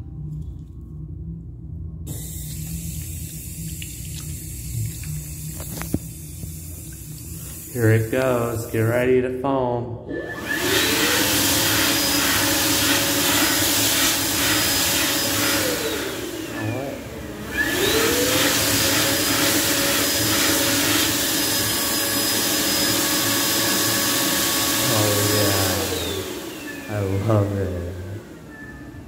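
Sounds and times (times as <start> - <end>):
hand dryer blowing: 2.1 - 9.2, 10.0 - 29.0.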